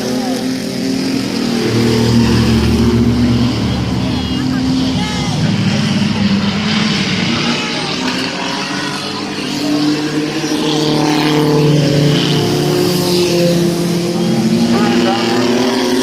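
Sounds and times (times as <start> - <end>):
truck race engines revving: 0.0 - 16.0.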